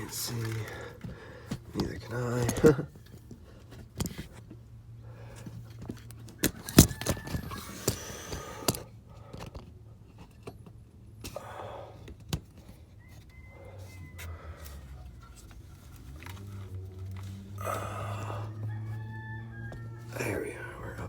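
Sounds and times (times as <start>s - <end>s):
clicks and scrapes in engine bay: 0.0s - 11.4s, 12.0s - 17.6s.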